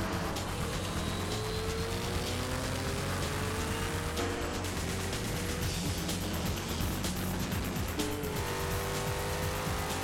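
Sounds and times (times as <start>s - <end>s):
race car engine accelerating: 0.0s - 6.2s, 7.9s - 10.0s.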